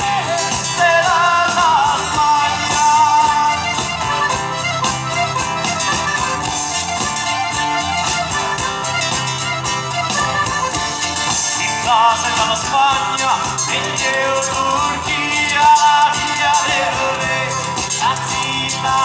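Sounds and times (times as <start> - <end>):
accordion melody: 0.0 - 19.0
fast tambourine beat: 0.0 - 19.0
strummed acoustic guitars: 0.0 - 19.0.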